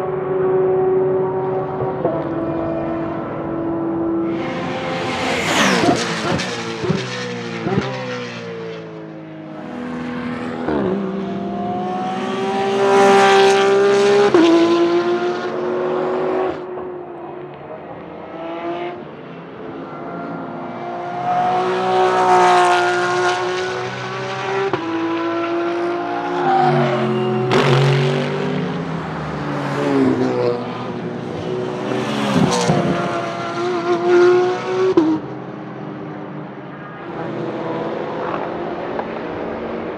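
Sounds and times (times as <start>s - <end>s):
race car engines passing: 0.0s - 39.9s.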